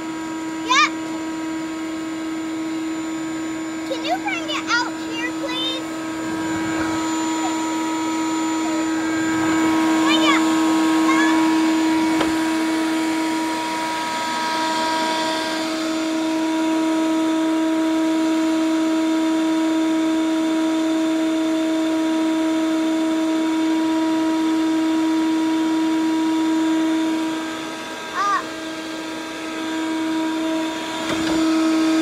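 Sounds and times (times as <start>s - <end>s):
shop vacuum motor whine: 0.0s - 32.0s.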